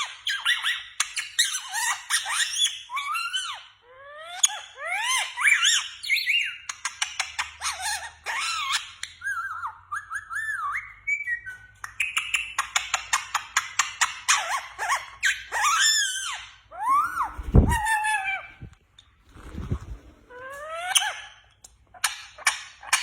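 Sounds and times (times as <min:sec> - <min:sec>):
parrot whistling and chirping: 0:00.0 - 0:18.7, 0:20.3 - 0:23.0.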